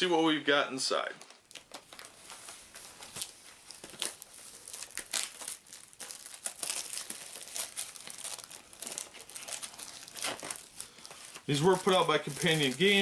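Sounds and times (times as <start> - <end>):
packaging crinkling and tearing: 1.2 - 13.0.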